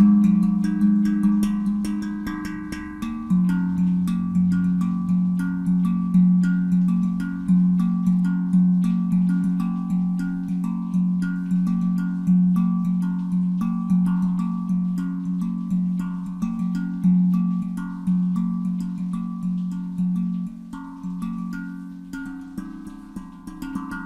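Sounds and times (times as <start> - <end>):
handpan played by hand: 0.0 - 24.0.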